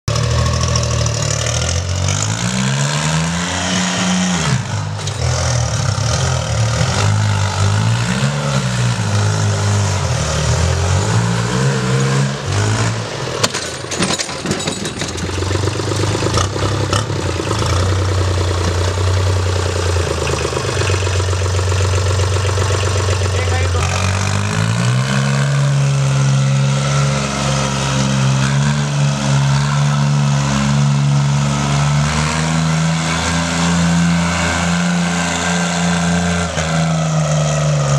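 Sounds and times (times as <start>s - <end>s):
tractor diesel engine revving: 0.1s - 37.9s.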